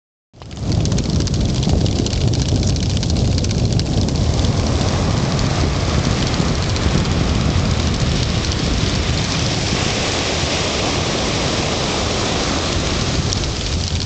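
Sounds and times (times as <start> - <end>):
ocean waves breaking on beach: 0.5 - 14.0.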